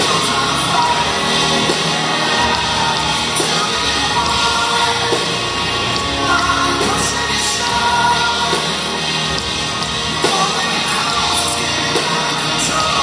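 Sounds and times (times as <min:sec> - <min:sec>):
live rock band playing: 0:00.0 - 0:13.0
male lead vocal singing: 0:00.0 - 0:13.0.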